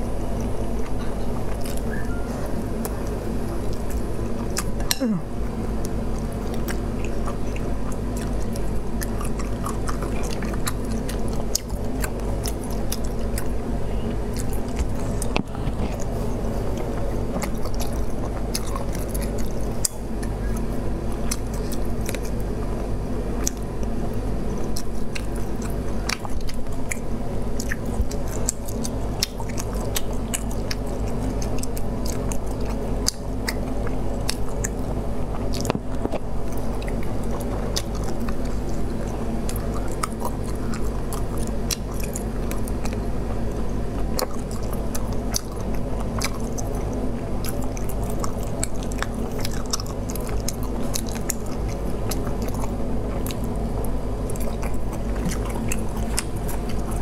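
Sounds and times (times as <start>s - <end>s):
chewing and wet mouth noises: 0.0s - 57.0s
steady low hum: 0.0s - 57.0s.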